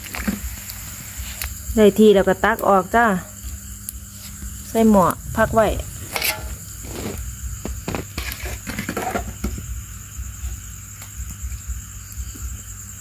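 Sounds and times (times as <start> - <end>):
crickets calling: 0.0 - 13.0.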